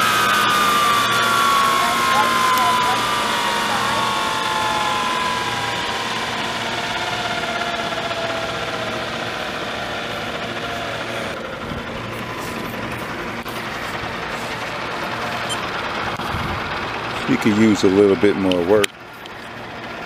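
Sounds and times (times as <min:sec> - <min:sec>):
model helicopter rotor whir: 0:00.0 - 0:20.0.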